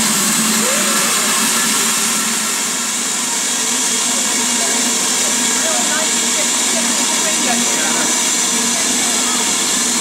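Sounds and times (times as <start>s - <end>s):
steam hissing from locomotive: 0.0s - 10.0s.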